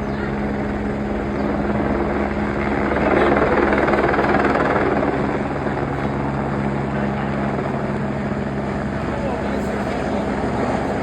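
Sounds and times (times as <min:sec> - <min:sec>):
helicopter rotor beat: 0:00.0 - 0:11.0.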